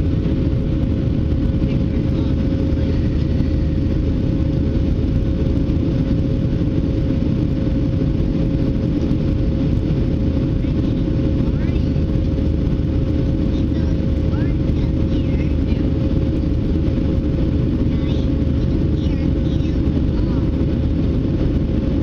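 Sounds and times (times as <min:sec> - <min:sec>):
jet engines roaring in flight: 0:00.0 - 0:22.0
steady hum tone: 0:00.0 - 0:22.0.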